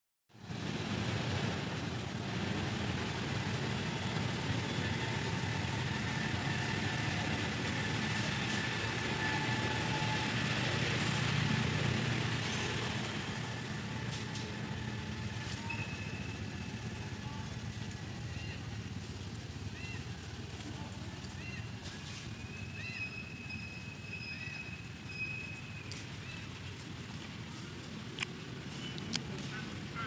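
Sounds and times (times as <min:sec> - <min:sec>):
low hum: 0:00.4 - 0:30.0.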